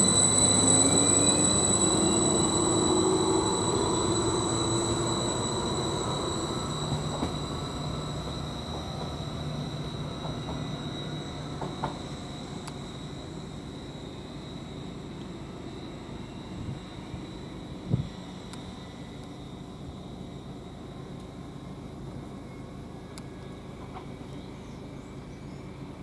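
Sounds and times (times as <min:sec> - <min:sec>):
diesel train engine pulling away: 0:00.0 - 0:26.0.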